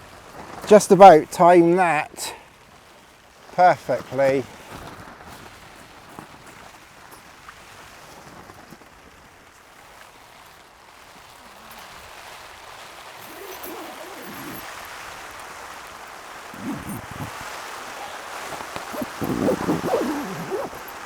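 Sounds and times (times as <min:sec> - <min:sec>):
rain on a tent: 0:00.0 - 0:21.0.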